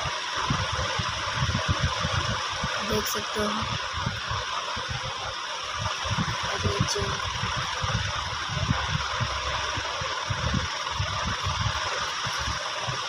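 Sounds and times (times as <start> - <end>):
fan or motor hum and hiss: 0.0 - 13.0
low rumbles: 0.0 - 13.0.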